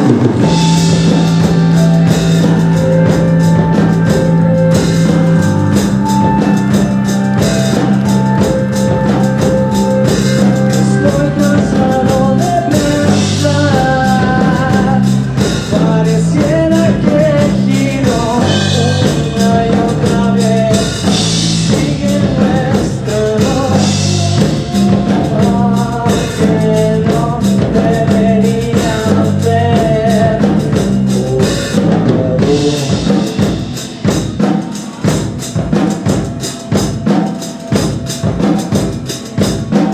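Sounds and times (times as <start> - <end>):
person singing: 0.0 - 39.9
rock band playing live: 0.0 - 39.9.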